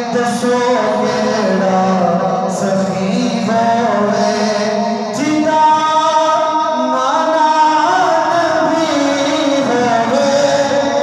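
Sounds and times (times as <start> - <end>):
man singing over loudspeaker: 0.0 - 11.0.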